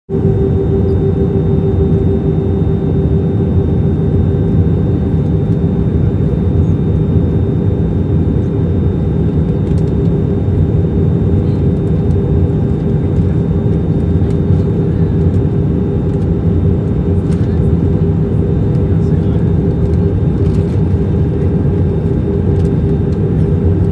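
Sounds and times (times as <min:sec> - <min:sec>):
airliner engine and air rush: 0:00.1 - 0:23.9
constant low hum: 0:00.1 - 0:23.9.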